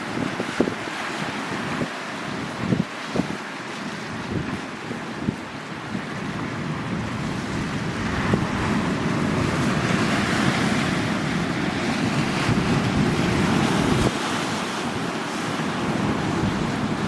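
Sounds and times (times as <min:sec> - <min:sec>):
sea waves washing ashore: 0:00.0 - 0:17.0
wind buffeting microphone: 0:00.0 - 0:17.0.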